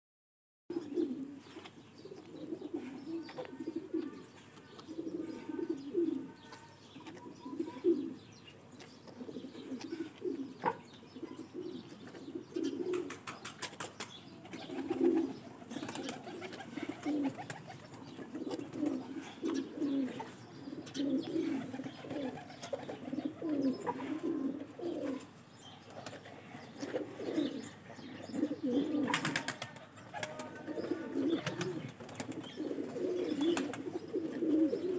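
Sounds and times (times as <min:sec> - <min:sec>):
pigeons cooing: 0:00.7 - 0:34.9.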